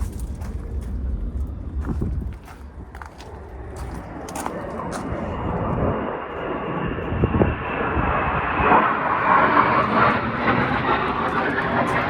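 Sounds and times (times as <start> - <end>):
jet aircraft flying overhead: 0.0 - 12.0.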